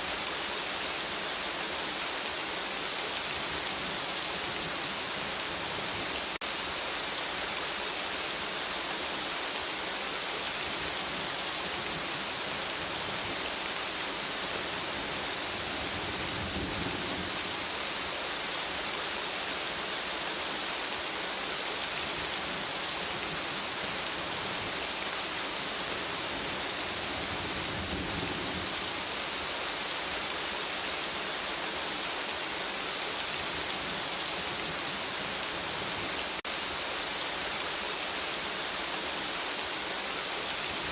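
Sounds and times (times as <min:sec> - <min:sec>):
rain falling on forest canopy: 0:00.0 - 0:40.9.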